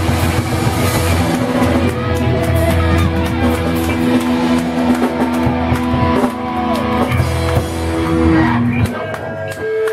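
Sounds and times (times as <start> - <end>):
rock band playing loud: 0.0 - 9.9.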